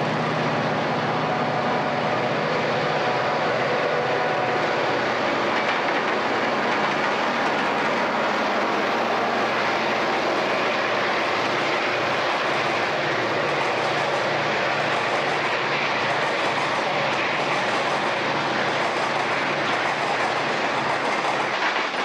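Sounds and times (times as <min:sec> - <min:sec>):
diesel locomotive engine throb: 0:00.0 - 0:22.0
wheels on rails: 0:00.0 - 0:22.0.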